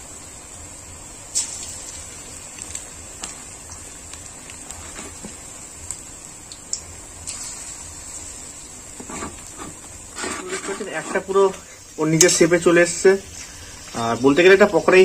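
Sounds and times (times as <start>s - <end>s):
food deep-frying in hot oil: 0.0s - 15.0s
oil popping and crackling: 1.2s - 15.0s.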